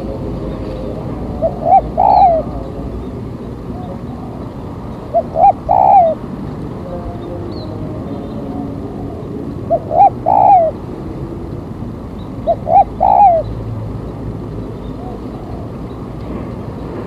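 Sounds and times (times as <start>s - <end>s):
dove cooing: 0.0s - 11.2s, 12.3s - 13.6s, 14.8s - 16.0s
steady background noise: 0.0s - 17.0s.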